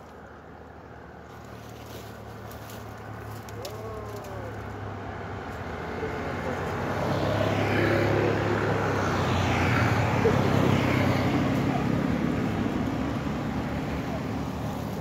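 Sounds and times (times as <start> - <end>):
road traffic: 0.0 - 15.0
motorcycle passing by: 0.9 - 15.0.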